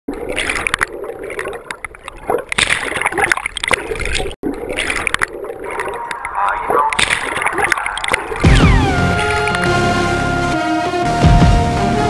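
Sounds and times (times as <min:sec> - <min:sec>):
water splashing and bubbling: 0:00.1 - 0:10.2
whitewater churning and gurgling: 0:00.1 - 0:10.6.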